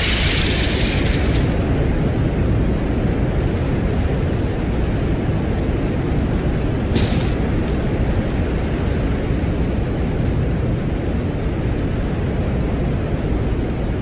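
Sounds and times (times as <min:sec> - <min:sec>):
steady low rumbling noise: 0:00.0 - 0:14.0.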